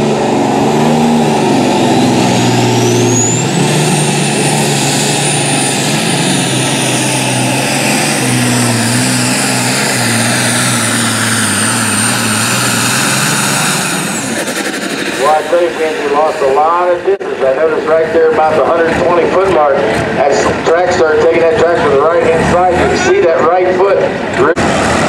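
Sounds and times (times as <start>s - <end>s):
high turbo whine: 0.0s - 25.0s
tractor engine at full throttle: 0.0s - 25.0s.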